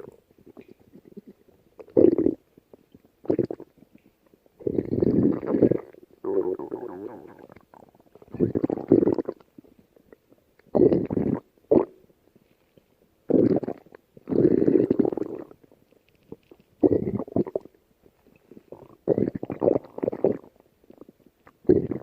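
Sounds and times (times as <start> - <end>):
stomach growling: 0.0 - 11.9, 13.3 - 17.8, 18.4 - 22.0.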